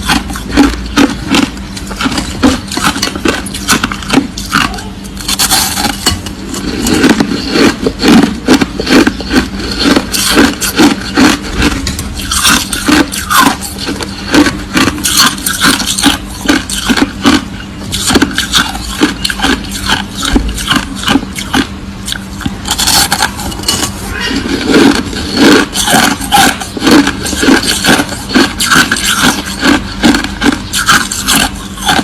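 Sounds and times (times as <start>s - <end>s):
crushed ice being chewed: 0.0s - 32.0s.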